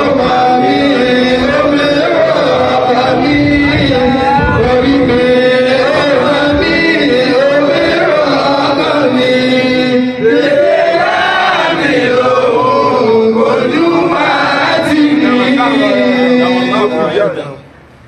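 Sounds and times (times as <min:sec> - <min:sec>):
man chanting: 0:00.0 - 0:10.5, 0:12.4 - 0:17.7.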